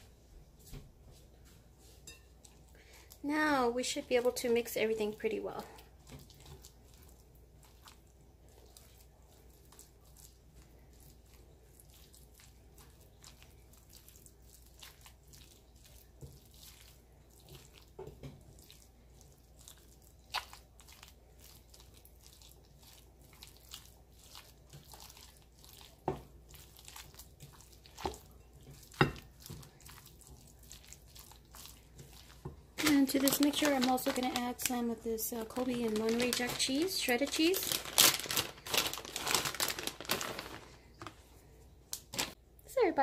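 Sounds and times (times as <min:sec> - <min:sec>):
spoon stirring thick mixture: 0:00.4 - 0:42.3.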